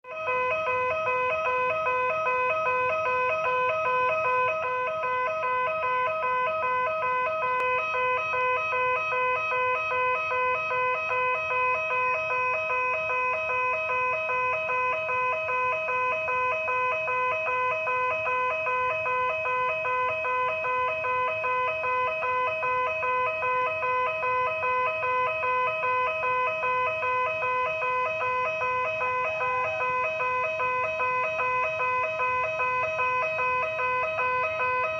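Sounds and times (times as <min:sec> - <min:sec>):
level crossing electronic alarm: 0:00.0 - 0:34.9.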